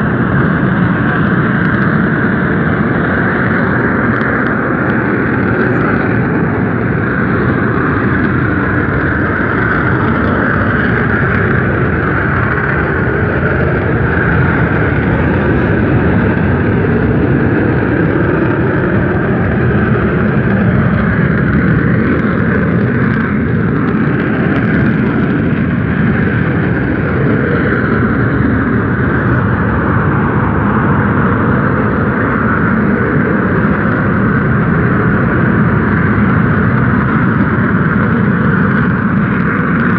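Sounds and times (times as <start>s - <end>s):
volcanic gas venting rumble: 0.0s - 39.9s.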